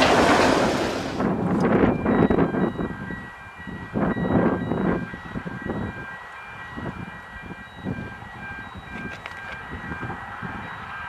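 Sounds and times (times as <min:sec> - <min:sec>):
distant train rumbling: 0:00.0 - 0:11.0.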